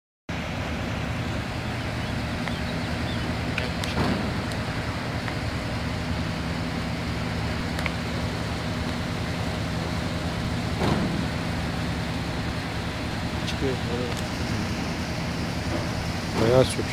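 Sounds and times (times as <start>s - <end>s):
low mechanical hum: 0.3s - 16.9s.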